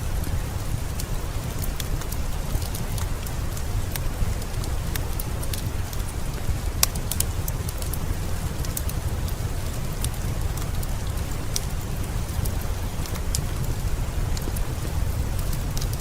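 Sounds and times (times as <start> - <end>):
heavy rain: 0.0 - 16.0
wood fire crackling and popping: 0.0 - 16.0.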